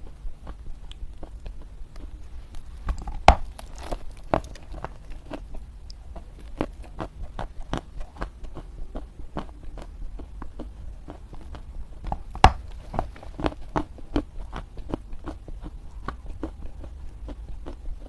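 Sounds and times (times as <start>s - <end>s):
dry clay chunks crunching: 1.2s - 17.9s.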